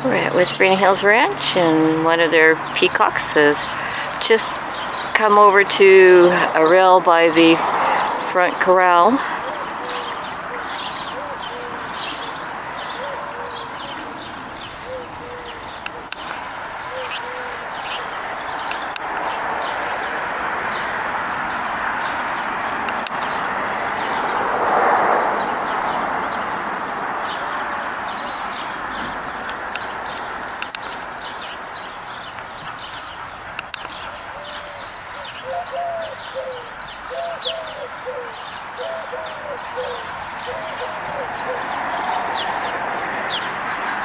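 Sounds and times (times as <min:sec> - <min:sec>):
small birds chirping: 0:00.0 - 0:24.4, 0:25.4 - 0:44.0.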